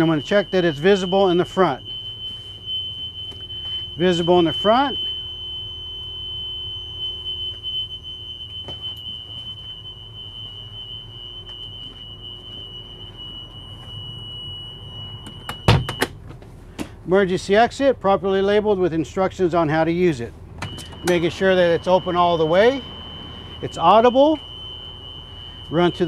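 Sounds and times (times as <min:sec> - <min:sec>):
emergency exit alarm tone: 0:00.0 - 0:16.2, 0:20.6 - 0:26.0.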